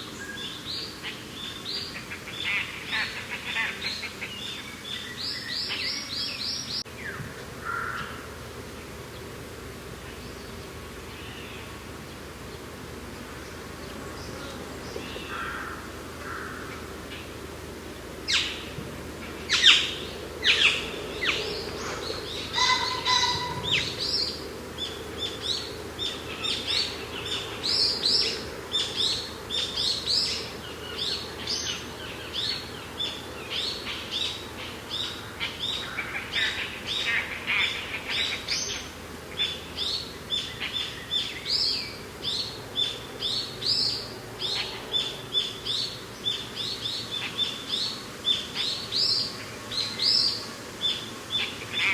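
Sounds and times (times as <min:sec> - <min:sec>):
low wind hush: 0:04.1 - 0:51.9
birds chirping: 0:10.0 - 0:51.9.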